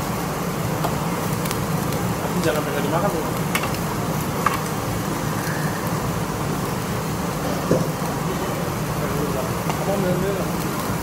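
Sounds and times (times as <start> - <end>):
restaurant hum and noise: 0.0 - 11.0.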